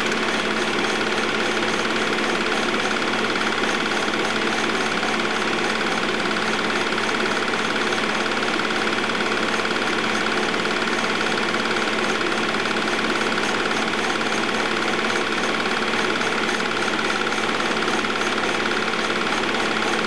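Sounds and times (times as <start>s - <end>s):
film projector clattering: 0.0s - 20.0s.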